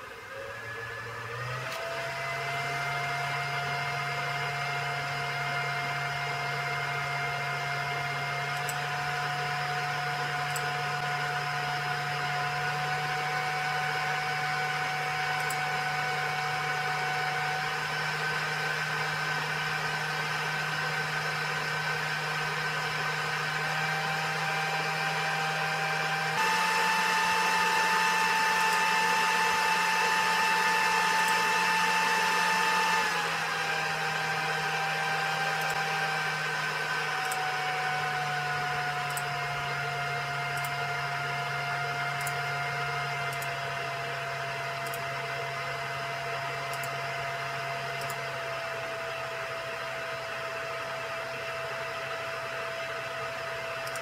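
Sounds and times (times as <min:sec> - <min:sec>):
server cooling fans whining: 0:00.0 - 0:54.0.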